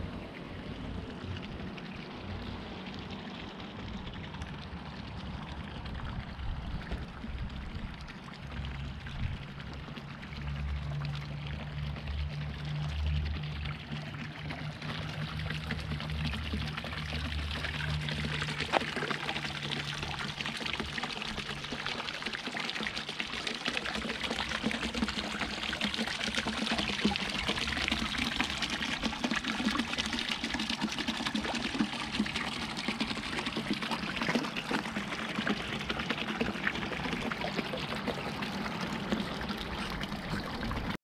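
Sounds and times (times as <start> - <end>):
fountain water splashing: 0.0 - 41.0.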